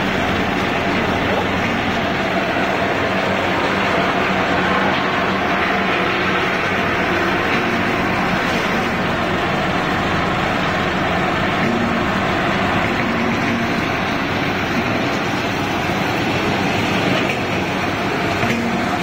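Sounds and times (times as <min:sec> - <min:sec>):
production line machinery running: 0:00.0 - 0:19.0.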